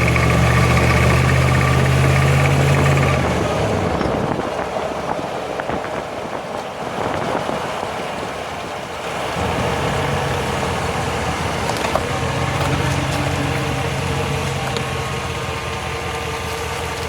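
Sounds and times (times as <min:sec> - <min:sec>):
drivetrain low rumble: 0:00.0 - 0:17.0.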